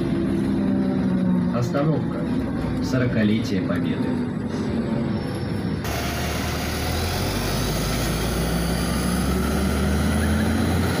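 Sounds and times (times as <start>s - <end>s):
bus engine hum: 0.0s - 11.0s.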